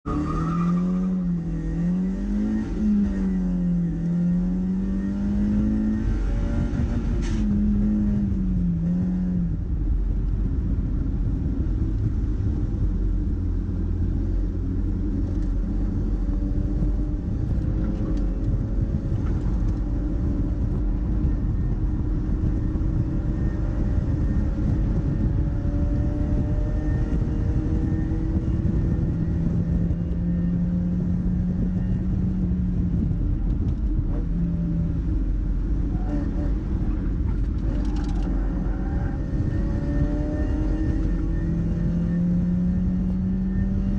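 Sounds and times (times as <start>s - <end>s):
wind and road noise: 0.0s - 43.9s
car engine running: 6.4s - 43.4s.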